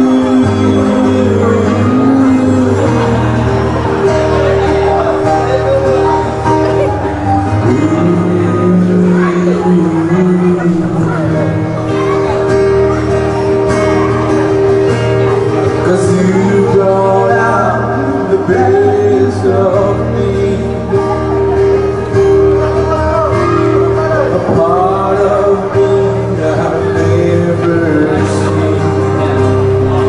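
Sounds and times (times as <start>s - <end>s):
man singing into microphone: 0.0s - 12.9s, 15.0s - 30.0s
keyboard: 0.0s - 30.0s
strummed acoustic guitar: 0.0s - 30.0s.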